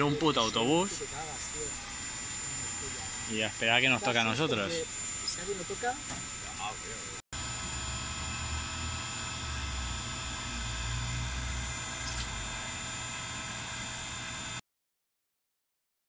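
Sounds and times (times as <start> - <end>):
machine hum with high tones: 0.0 - 14.6.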